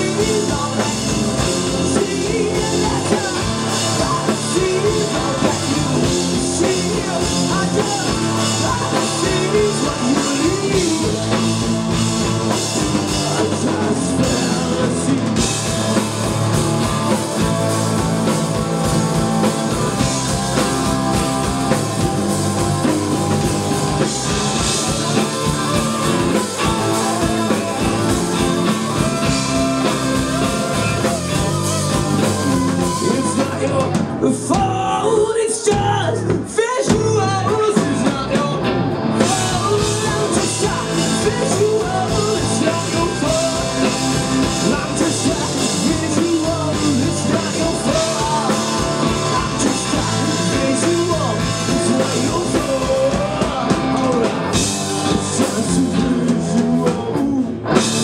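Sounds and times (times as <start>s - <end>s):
person singing: 0.0s - 58.0s
rock band playing live: 0.0s - 58.0s.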